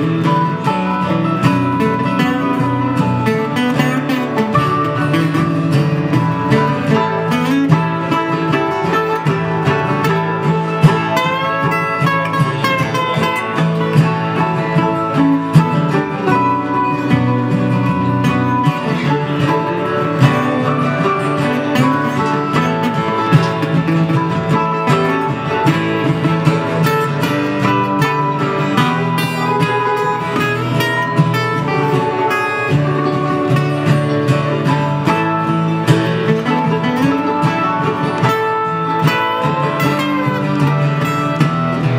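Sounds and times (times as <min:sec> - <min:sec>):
acoustic guitars strumming: 0:00.0 - 0:41.9
mandolin picking: 0:00.0 - 0:41.9.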